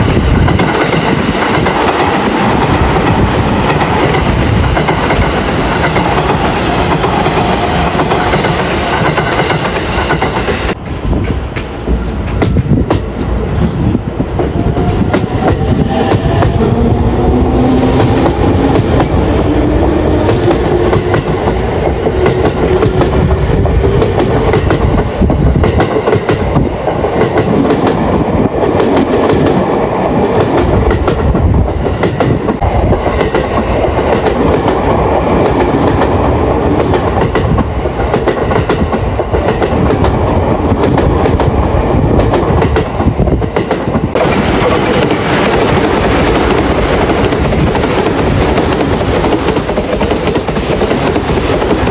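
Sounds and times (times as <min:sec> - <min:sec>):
train wheels clattering: 0:00.0 - 0:29.7, 0:30.4 - 0:51.9.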